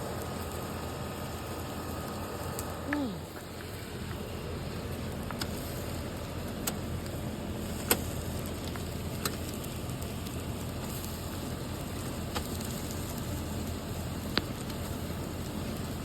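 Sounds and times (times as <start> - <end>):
sharp crackles and pops: 0.0 - 16.0
shrimp sizzling on a grill: 0.0 - 16.0.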